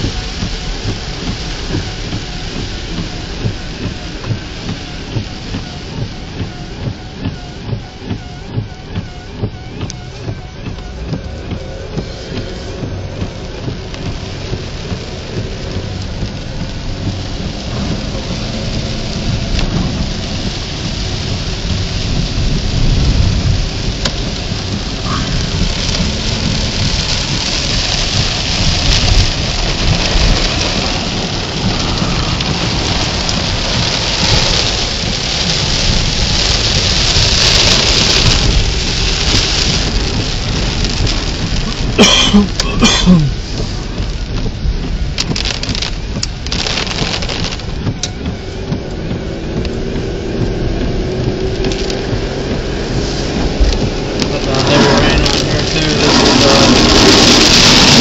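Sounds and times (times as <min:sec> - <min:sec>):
heavy rain pelting down: 0:00.0 - 0:58.0
low rumble: 0:00.0 - 0:58.0.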